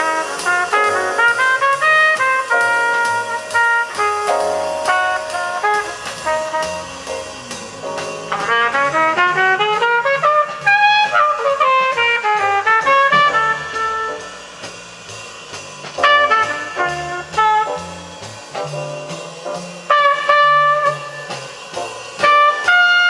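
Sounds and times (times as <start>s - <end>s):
jazz over loudspeakers: 0.0s - 14.6s, 15.8s - 23.0s.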